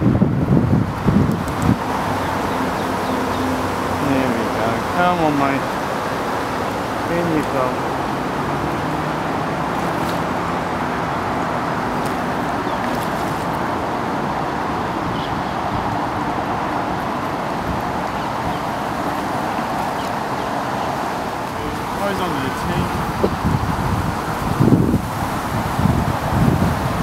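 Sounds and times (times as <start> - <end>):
rushing outdoor background noise: 0.0 - 27.0.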